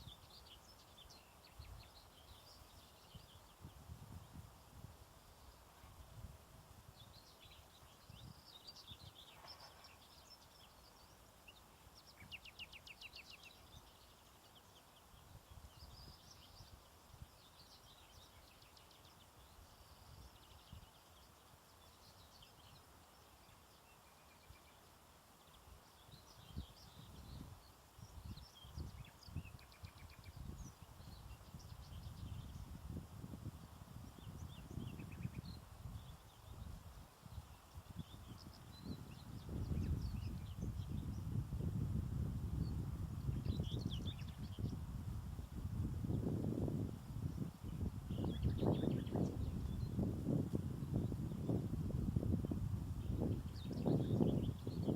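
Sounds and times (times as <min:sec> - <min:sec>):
birds singing faintly: 0:00.0 - 0:54.9.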